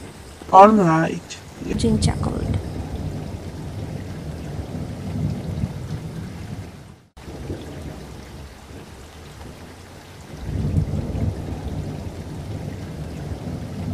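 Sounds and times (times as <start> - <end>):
rain: 0.0 - 13.9
rolling thunder: 1.5 - 13.9.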